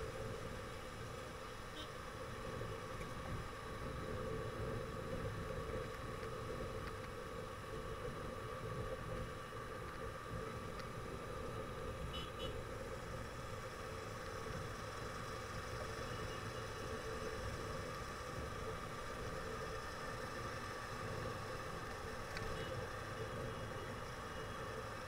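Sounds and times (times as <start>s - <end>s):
traffic and road noise: 0.0s - 25.0s.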